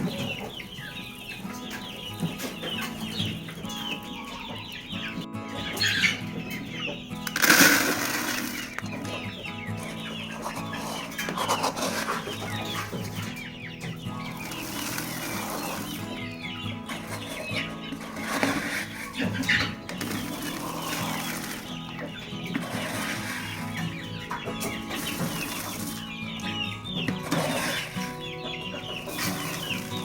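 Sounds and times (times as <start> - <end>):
chickens calling: 0.0 - 30.0.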